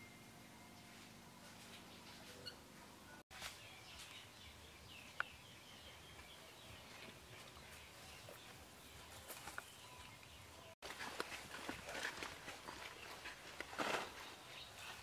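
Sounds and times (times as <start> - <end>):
quiet bird chirps: 0.0 - 13.4.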